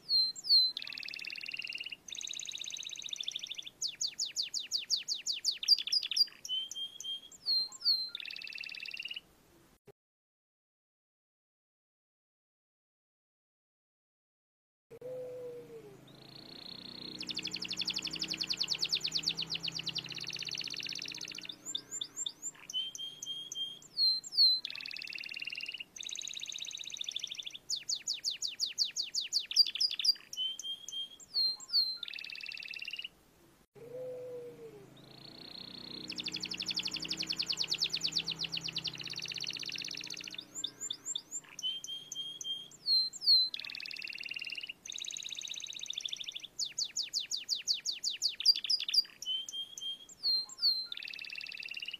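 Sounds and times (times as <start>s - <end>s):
canary singing trills: 0.0s - 9.3s, 15.0s - 33.2s, 33.8s - 51.9s.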